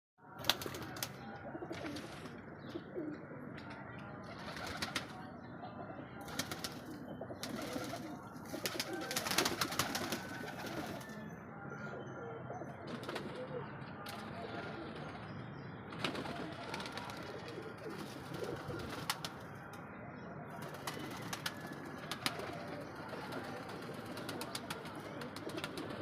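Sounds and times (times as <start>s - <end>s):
pigeons cooing: 0.4s - 3.7s, 4.3s - 15.3s, 16.0s - 19.4s, 20.5s - 26.0s.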